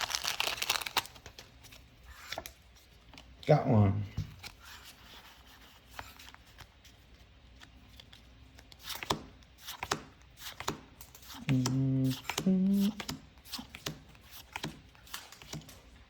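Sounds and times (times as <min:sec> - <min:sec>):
trading cards clicking and rustling: 0:00.0 - 0:03.4, 0:05.8 - 0:16.0.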